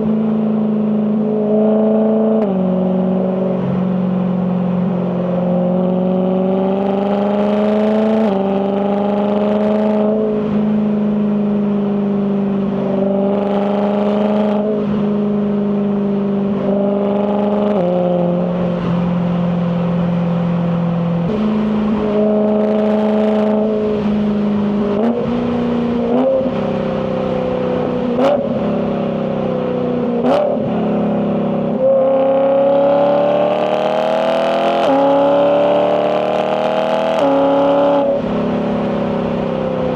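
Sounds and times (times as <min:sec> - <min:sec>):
car exhaust through gear changes: 0:00.0 - 0:39.9.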